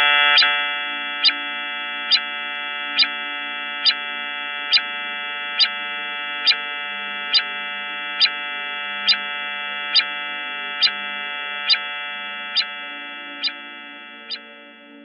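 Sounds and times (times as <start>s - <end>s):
eerie electronic drone: 0.0s - 15.0s.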